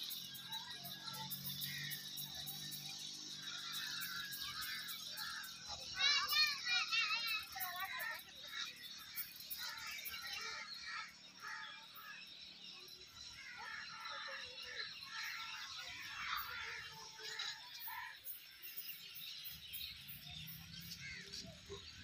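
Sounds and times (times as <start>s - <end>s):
birds chirping: 0.0s - 22.0s
distant voices: 0.0s - 22.0s.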